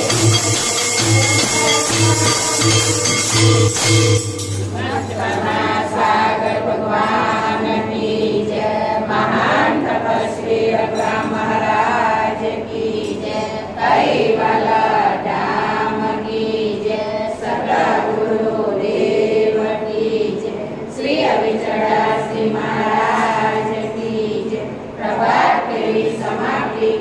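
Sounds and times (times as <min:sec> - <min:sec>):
congregation chanting in unison: 0:04.8 - 0:27.0.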